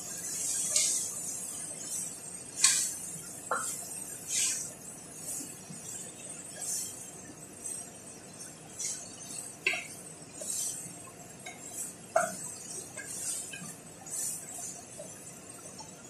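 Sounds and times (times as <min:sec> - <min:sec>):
spoon scraping in a pot: 0:00.1 - 0:15.2.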